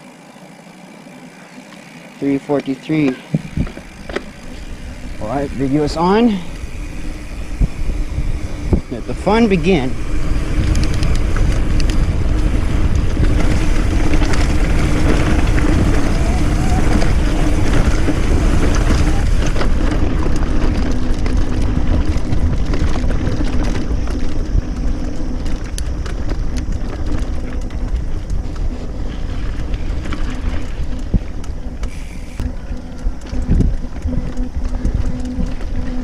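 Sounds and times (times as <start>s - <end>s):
bike tyres rumbling over trail: 0.0s - 36.0s
steady low hum: 0.0s - 36.0s
wind buffeting microphone: 3.3s - 36.0s.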